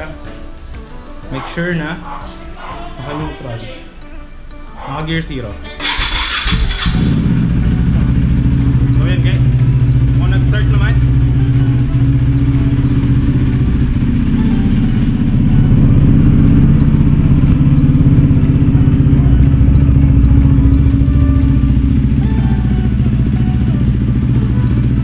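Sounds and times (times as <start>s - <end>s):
motorcycle engine idling: 0.0s - 3.2s, 5.6s - 25.0s.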